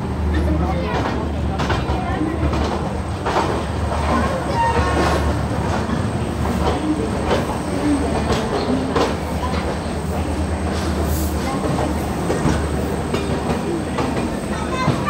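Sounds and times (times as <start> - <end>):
train coach rumbling: 0.0 - 15.0
wheels clacking over rail joints: 0.7 - 15.0.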